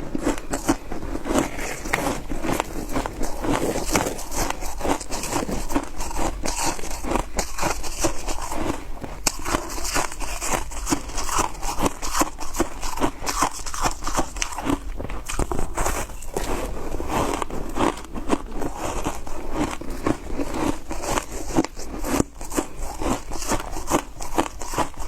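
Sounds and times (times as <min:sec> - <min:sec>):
ice being chewed: 0:00.0 - 0:25.0.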